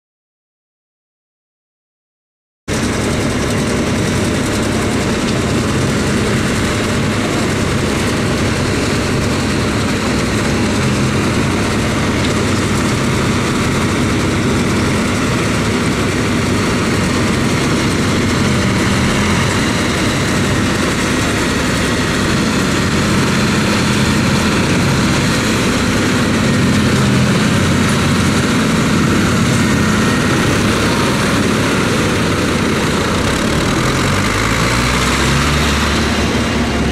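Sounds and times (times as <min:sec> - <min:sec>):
tractor and harvester drone: 0:02.7 - 0:36.9.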